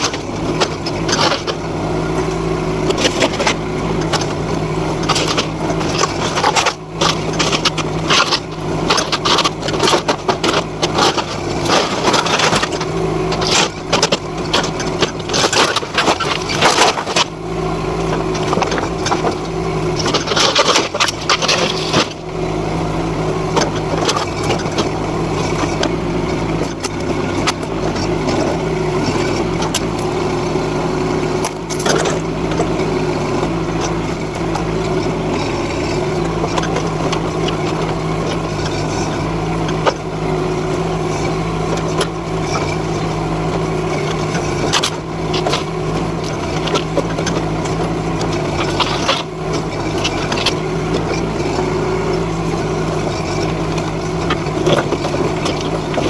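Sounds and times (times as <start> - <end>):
excavator engine running: 0.0 - 56.0.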